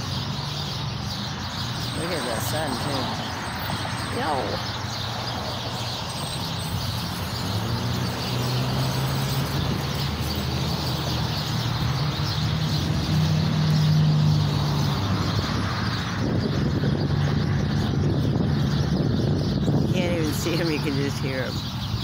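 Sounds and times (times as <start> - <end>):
flock of birds chattering: 0.0 - 22.0
vehicle engine humming: 0.0 - 22.0.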